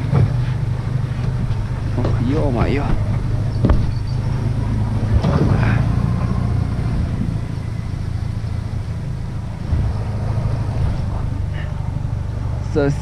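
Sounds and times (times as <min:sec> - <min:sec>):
small boat motor running: 0:00.0 - 0:13.0.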